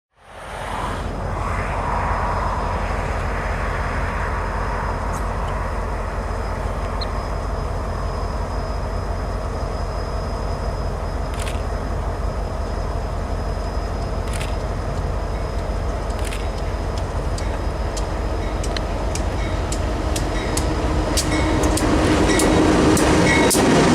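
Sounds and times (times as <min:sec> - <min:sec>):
freight train rumbling by: 0:00.2 - 0:23.9.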